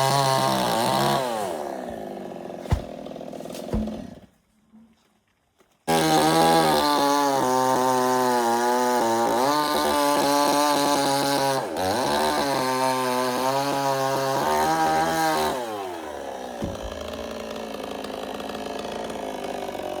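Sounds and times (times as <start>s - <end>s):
chainsaw running: 0.0s - 4.3s, 5.9s - 20.0s.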